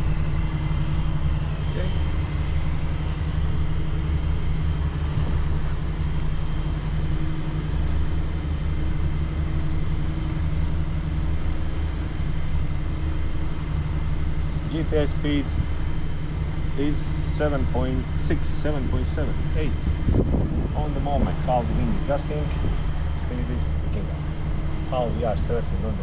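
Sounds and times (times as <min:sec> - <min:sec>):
diesel engines droning: 0:00.0 - 0:26.0.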